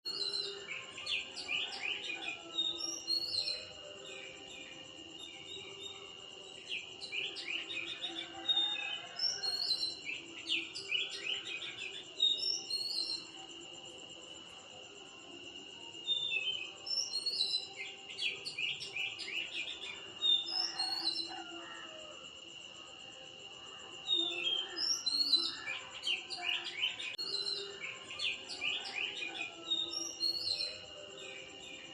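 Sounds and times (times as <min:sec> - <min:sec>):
high-pitched insect drone: 0:00.1 - 0:31.9.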